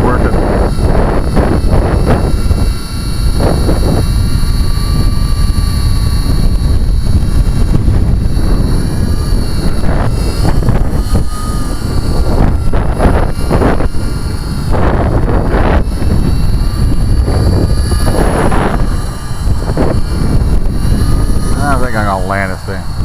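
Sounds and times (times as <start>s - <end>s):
small helicopter rotors whining: 0.0s - 23.0s
wind rumble on microphone: 0.0s - 23.0s.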